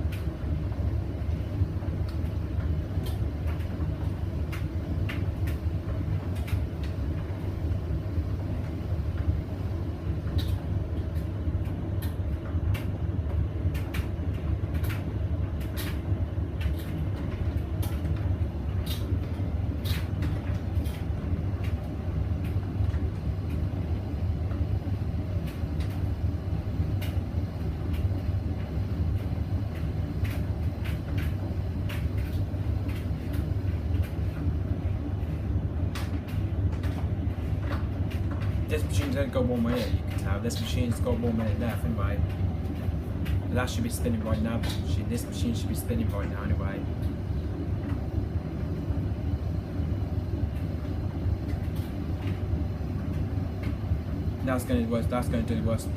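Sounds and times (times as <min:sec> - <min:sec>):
washing machine rumbling: 0:00.0 - 0:55.9.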